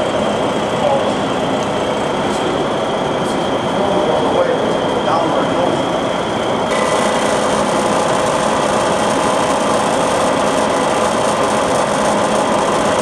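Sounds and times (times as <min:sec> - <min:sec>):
drilling machine hum: 0:00.0 - 0:13.0.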